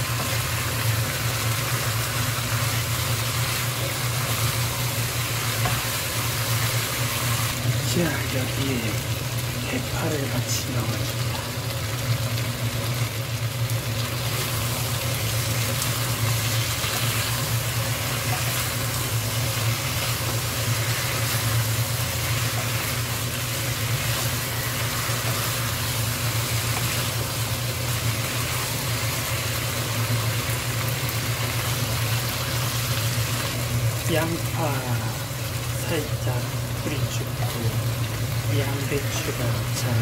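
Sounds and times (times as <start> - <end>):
food sizzling in a wok: 0.0 - 40.0
steady low hum: 0.0 - 40.0.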